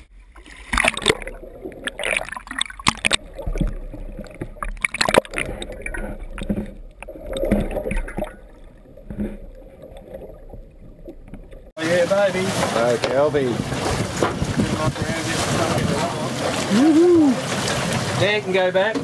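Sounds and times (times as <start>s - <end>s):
seawater sloshing and gurgling: 0.0s - 19.0s
water splashes: 0.0s - 19.0s.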